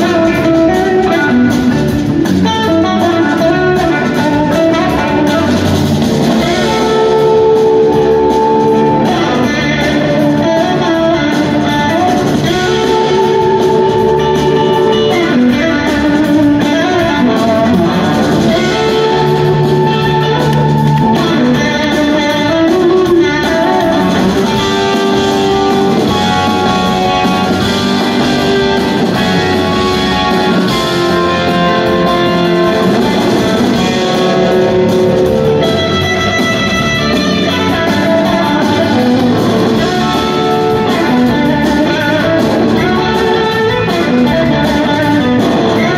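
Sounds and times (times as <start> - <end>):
electric guitar slide notes: 0.0 - 45.9
rock band playing: 0.0 - 45.9.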